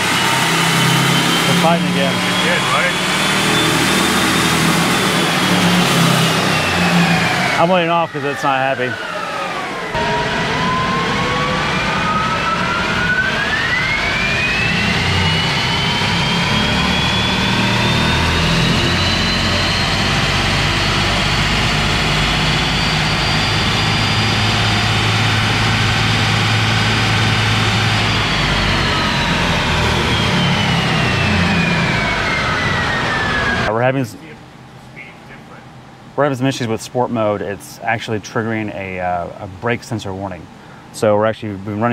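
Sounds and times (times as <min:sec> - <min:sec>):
electric motors whining: 0:00.0 - 0:33.8.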